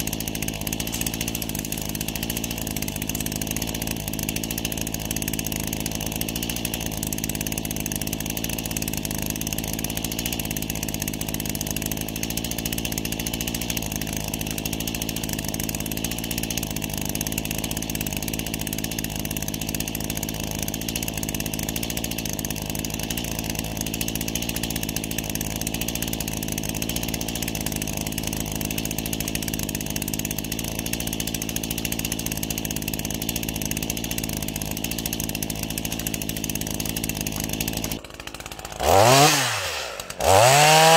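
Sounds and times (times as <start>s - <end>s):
chainsaw idling: 0.0s - 40.9s.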